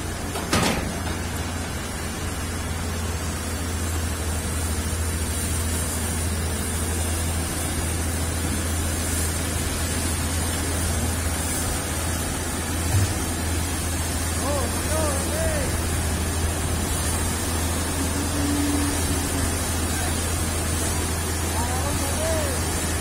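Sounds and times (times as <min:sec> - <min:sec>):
diesel engines running: 0:00.0 - 0:23.0
noisy hiss: 0:00.0 - 0:23.0.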